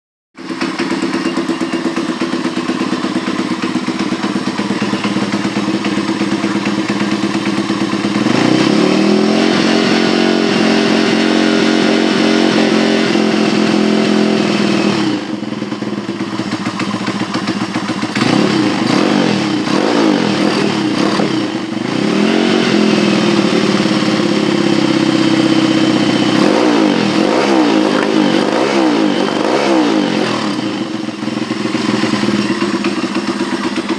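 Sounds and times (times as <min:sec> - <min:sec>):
pit bike engine revving: 0:00.4 - 0:33.9.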